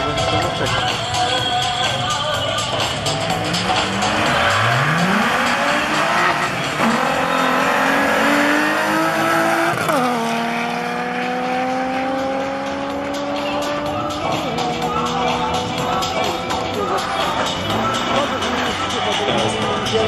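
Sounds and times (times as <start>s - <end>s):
cars accelerating hard: 2.8s - 20.0s.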